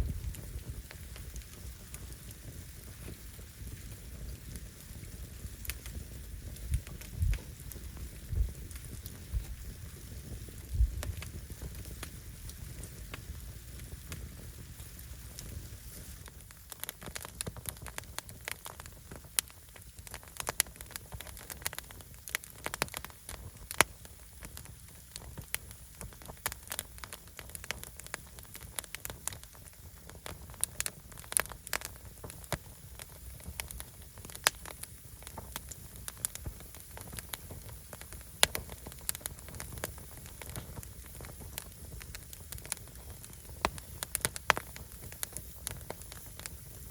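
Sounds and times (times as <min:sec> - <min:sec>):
firewood crackling and popping: 0:00.0 - 0:46.9.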